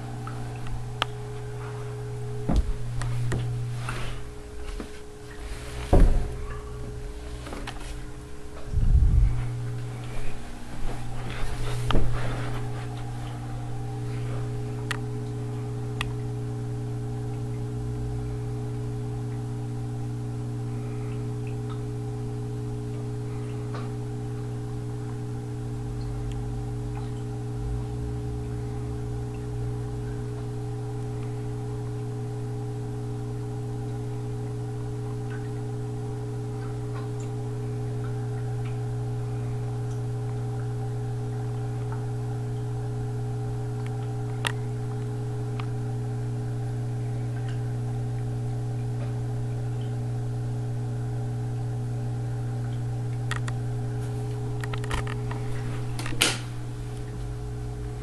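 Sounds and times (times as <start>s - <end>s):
aquarium equipment humming: 0.0s - 58.0s.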